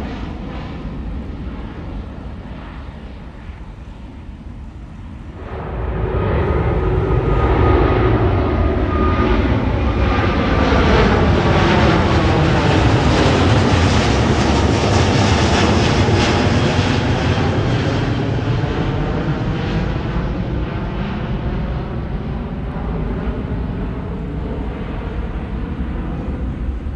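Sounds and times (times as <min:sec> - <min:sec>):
jet airliner roar: 0:00.0 - 0:26.9.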